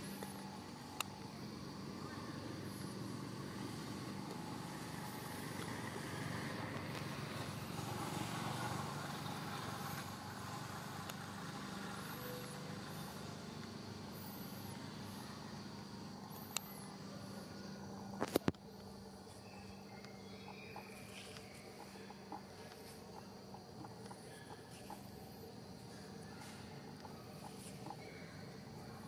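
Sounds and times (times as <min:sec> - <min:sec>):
distant traffic hum: 0:00.0 - 0:29.0.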